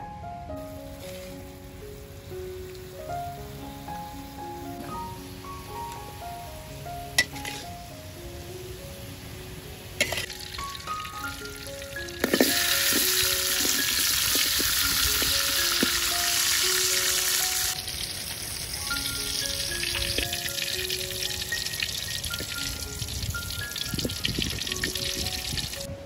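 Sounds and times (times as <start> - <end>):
plucked background melody: 0.0 - 26.0
food sizzling in hot oil: 0.7 - 8.2, 9.7 - 25.9.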